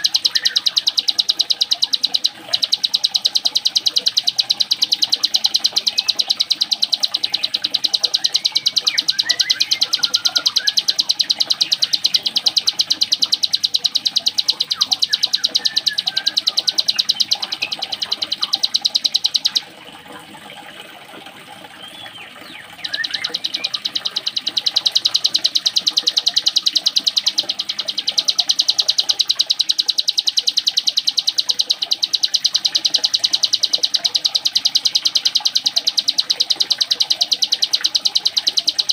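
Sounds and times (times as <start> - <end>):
soft bird chirping: 0.0 - 19.7, 21.7 - 38.9
songbird fast machine-like trill: 0.0 - 38.9.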